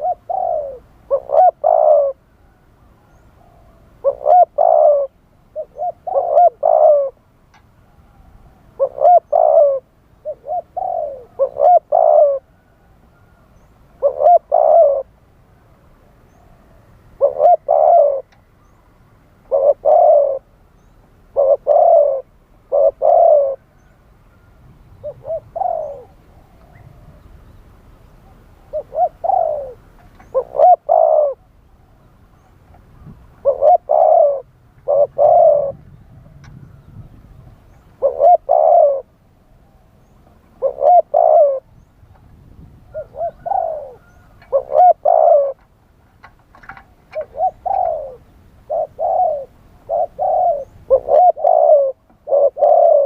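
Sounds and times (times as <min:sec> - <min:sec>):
dove cooing: 0:00.0 - 0:07.2, 0:07.8 - 0:15.2, 0:16.3 - 0:18.8, 0:19.4 - 0:27.3, 0:28.2 - 0:41.9, 0:42.7 - 0:53.0.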